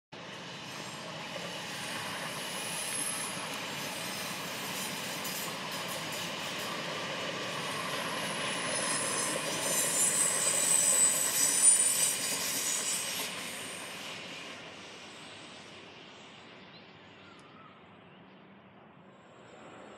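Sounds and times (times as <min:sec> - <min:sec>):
high squeal of train: 0:00.2 - 0:18.1, 0:19.2 - 0:19.9
electric train passing on rails: 0:00.2 - 0:19.9.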